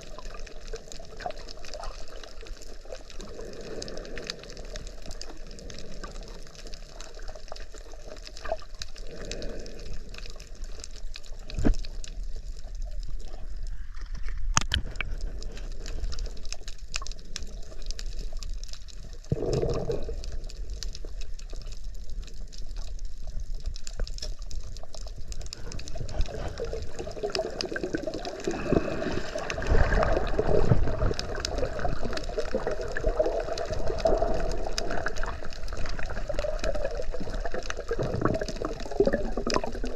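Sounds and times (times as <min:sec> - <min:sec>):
water rushing and bubbling: 0:00.0 - 0:39.9.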